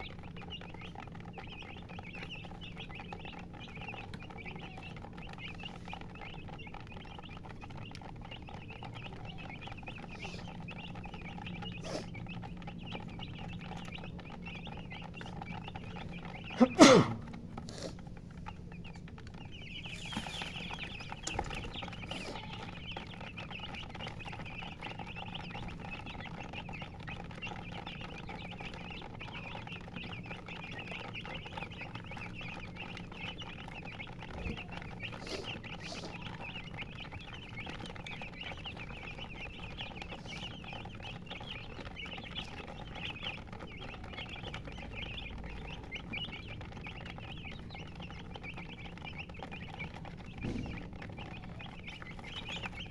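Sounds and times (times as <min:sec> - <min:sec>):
chicks chirping: 0:00.0 - 0:52.9.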